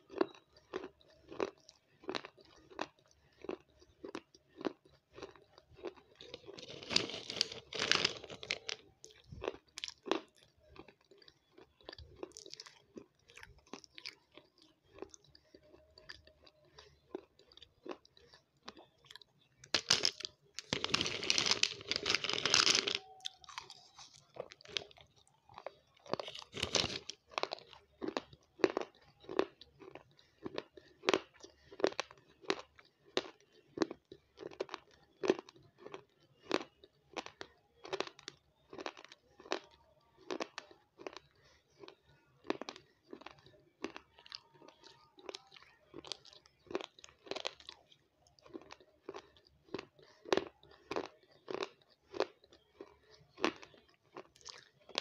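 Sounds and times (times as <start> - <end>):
mouth crunching dry food: 0.0 - 55.0.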